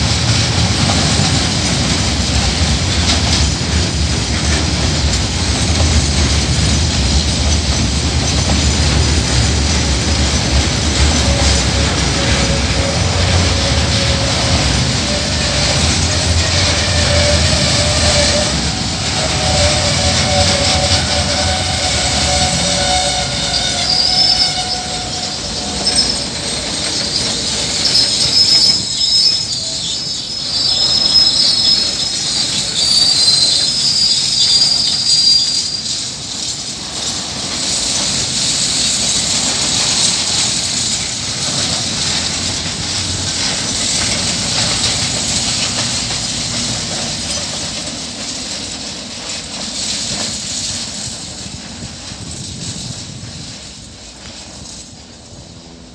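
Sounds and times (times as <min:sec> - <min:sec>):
freight wagon wheels rumbling: 0:00.0 - 0:55.4
high wheel squeal: 0:00.8 - 0:51.2.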